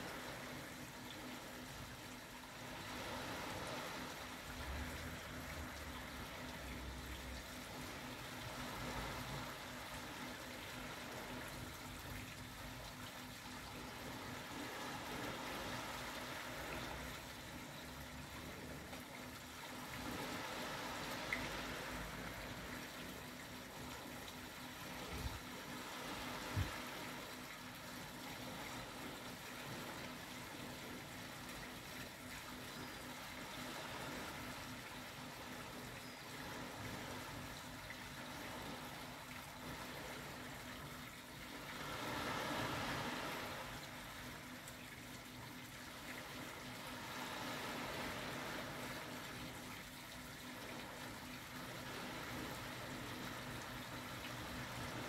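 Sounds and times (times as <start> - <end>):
waves washing onto sandy beach: 0.0 - 11.5, 13.7 - 17.5, 19.6 - 30.5, 33.1 - 40.6, 41.4 - 44.7, 45.9 - 55.0.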